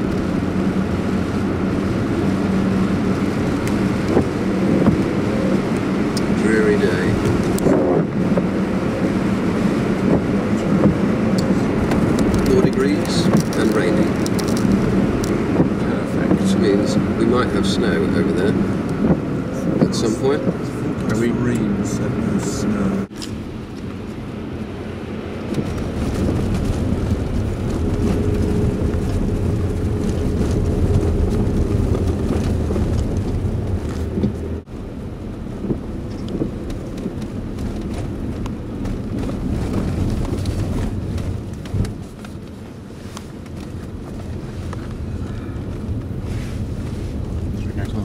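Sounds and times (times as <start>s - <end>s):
car engine rumble inside cabin: 0.0s - 48.0s.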